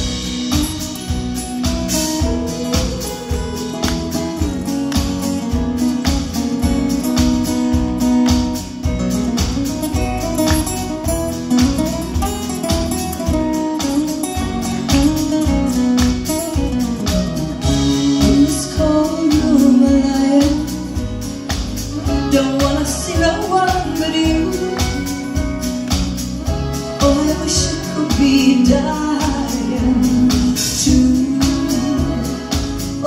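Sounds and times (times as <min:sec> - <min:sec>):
live country band playing: 0:00.0 - 0:33.0.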